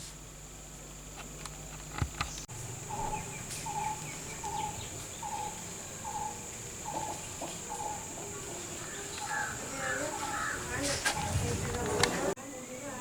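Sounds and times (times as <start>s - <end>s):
high insect buzz: 0.0s - 13.0s.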